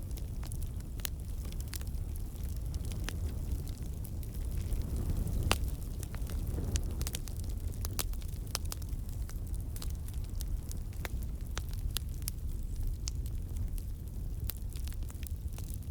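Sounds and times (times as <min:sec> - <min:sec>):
burning wood crackling and popping: 0:00.0 - 0:15.9
low rumble of flames: 0:00.0 - 0:15.9.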